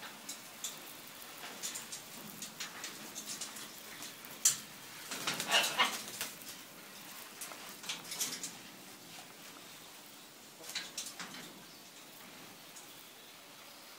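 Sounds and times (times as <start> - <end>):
light clicks and rustles: 0.0 - 9.9, 10.6 - 13.0.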